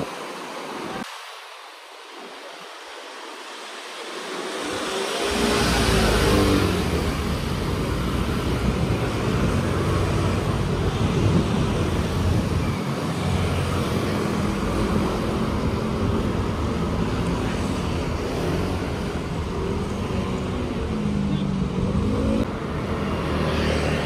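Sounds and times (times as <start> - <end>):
roadway rumble: 0.0 - 24.0
scooters and trucks passing: 3.4 - 24.0.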